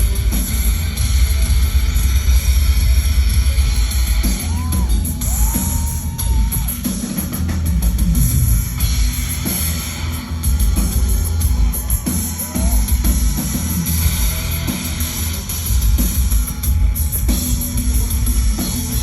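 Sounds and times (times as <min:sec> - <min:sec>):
heavy drum beat: 0:00.0 - 0:19.0
live industrial band: 0:00.0 - 0:19.0.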